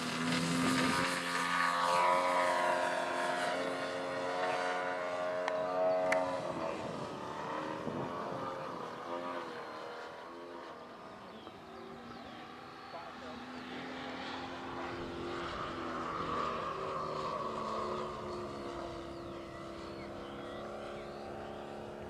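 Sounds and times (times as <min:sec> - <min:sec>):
model airplane motor and propeller: 0:00.0 - 0:22.0.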